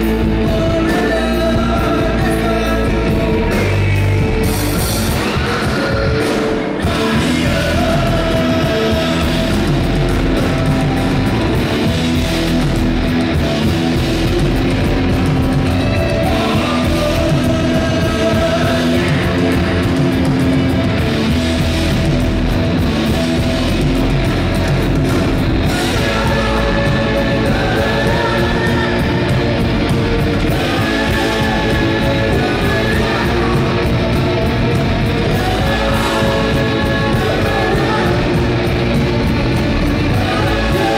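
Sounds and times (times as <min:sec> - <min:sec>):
bass guitar: 0:00.0 - 0:40.9
drums: 0:00.0 - 0:40.9
electric guitars: 0:00.0 - 0:40.9.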